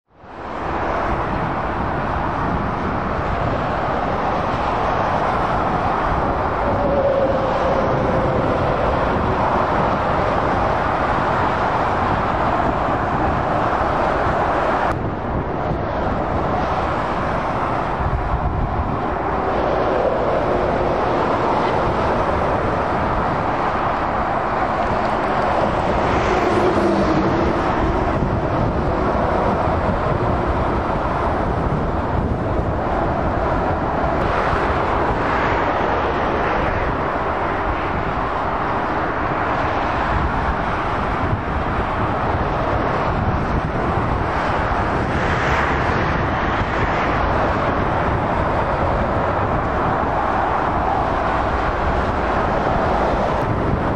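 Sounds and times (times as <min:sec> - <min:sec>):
motorway traffic noise: 0:00.0 - 0:53.9.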